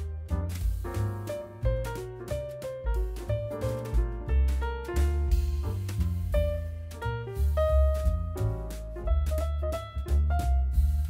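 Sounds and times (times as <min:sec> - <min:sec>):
bass notes: 0:00.0 - 0:11.0
jazzy piano tune: 0:00.0 - 0:11.0.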